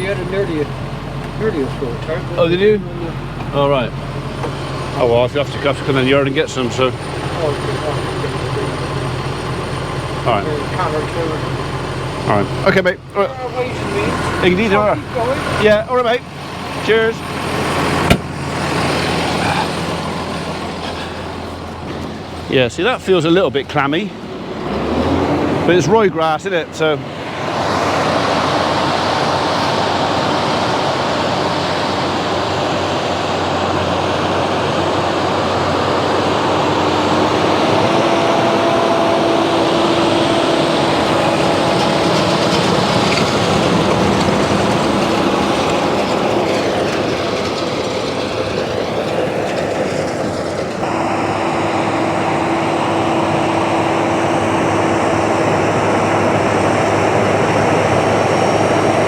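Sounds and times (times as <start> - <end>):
tractor and hay baler running: 0.0 - 59.0.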